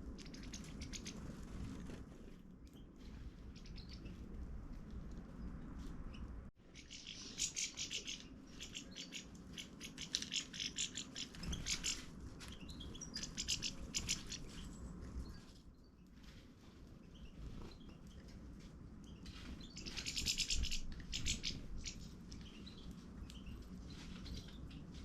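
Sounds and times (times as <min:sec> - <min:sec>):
small birds chirping: 0:00.0 - 0:02.0, 0:02.6 - 0:25.0.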